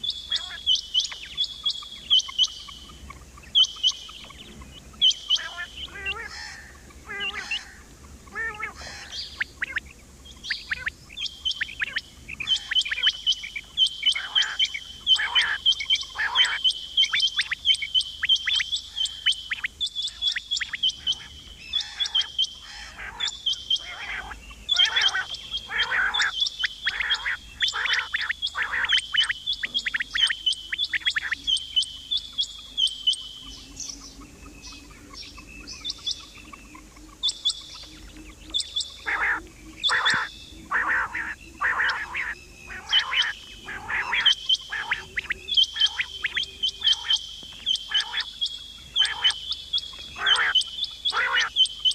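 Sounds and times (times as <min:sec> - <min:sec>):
quail chirping: 0:00.0 - 0:51.9.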